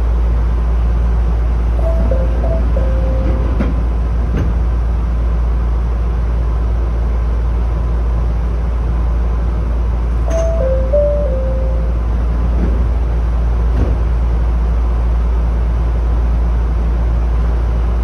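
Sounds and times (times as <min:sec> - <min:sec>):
electric train low rumble: 0:00.0 - 0:18.0.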